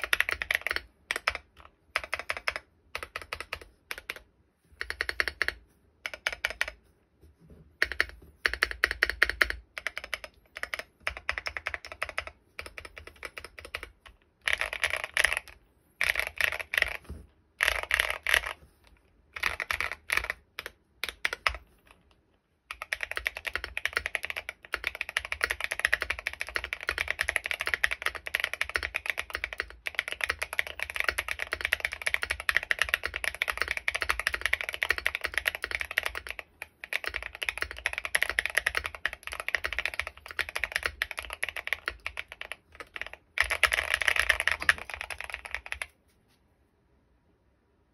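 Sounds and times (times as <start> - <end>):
mechanical keyboard typing: 0.0 - 6.8, 7.8 - 46.0.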